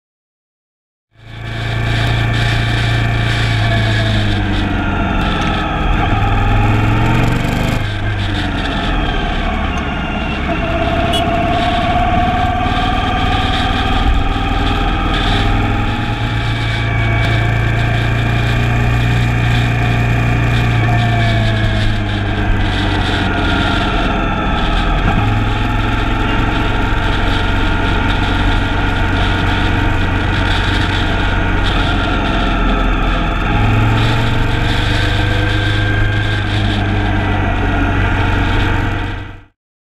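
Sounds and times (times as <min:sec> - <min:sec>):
motorcycle engine running: 0:01.1 - 0:39.5
wind rumbling on microphone: 0:01.2 - 0:39.5.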